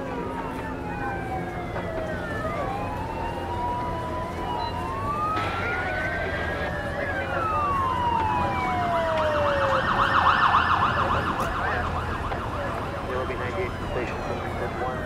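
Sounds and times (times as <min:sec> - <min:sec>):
fast siren yelp: 0:00.0 - 0:15.0
fire engine sirens wailing: 0:00.0 - 0:15.0.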